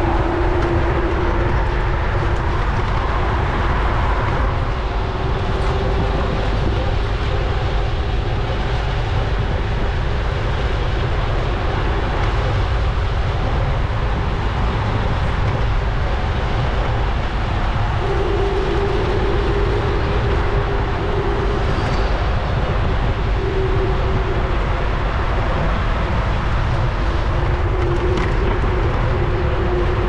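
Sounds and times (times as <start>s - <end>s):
steady hum: 0.0s - 30.0s
wind rushing over microphone: 0.0s - 30.0s.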